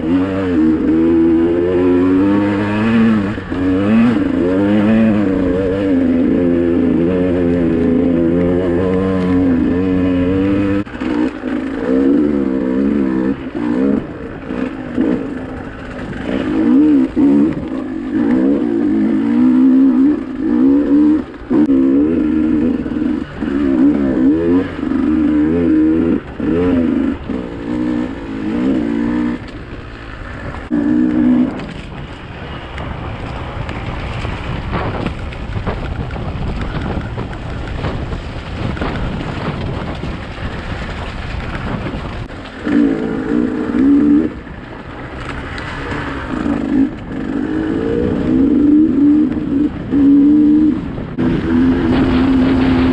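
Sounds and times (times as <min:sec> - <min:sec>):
dirt bike engine revving: 0:00.0 - 0:52.9
steady rushing noise: 0:00.0 - 0:52.9.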